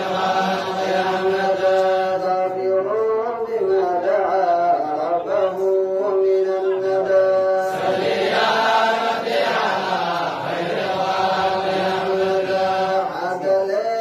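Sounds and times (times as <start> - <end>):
person chanting: 0.0 - 14.0.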